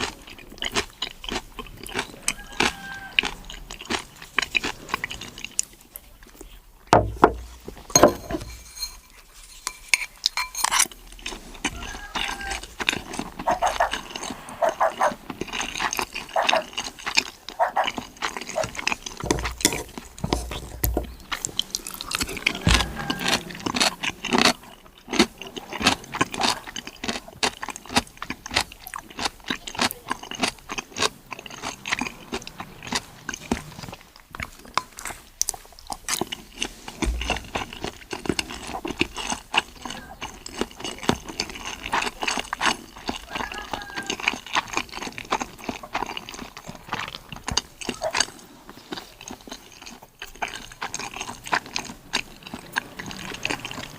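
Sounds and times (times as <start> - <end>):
chewing and crunching: 0.0 - 53.9.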